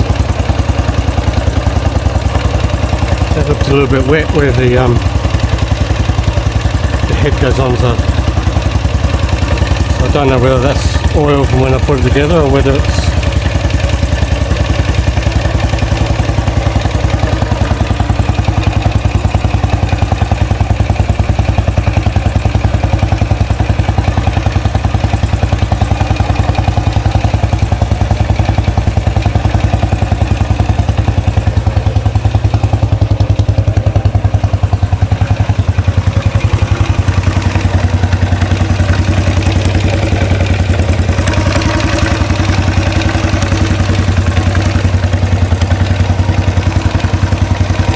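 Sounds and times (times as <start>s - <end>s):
engine ticking: 0.0s - 47.9s
motorcycle engine idling: 0.0s - 47.9s.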